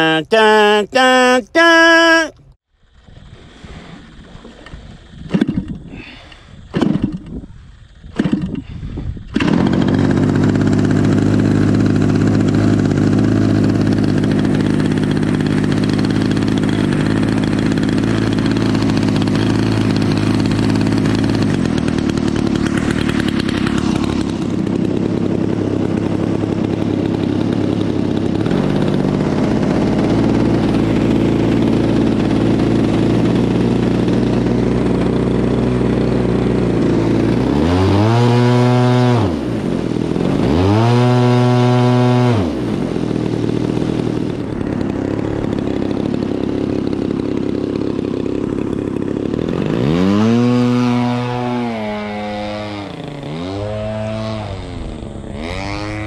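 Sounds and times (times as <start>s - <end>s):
model plane engine idling and revving: 4.6s - 56.0s.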